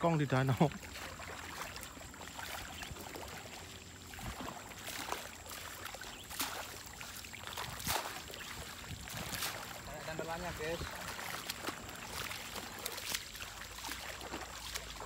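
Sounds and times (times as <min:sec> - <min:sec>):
water splashing off nets: 0:00.0 - 0:15.0.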